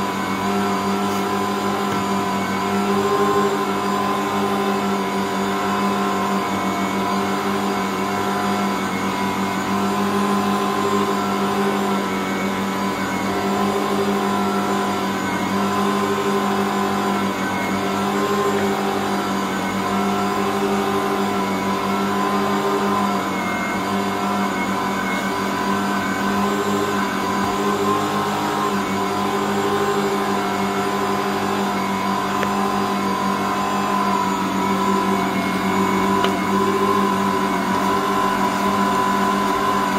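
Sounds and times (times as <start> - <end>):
stand mixer motor humming: 0.0 - 39.9.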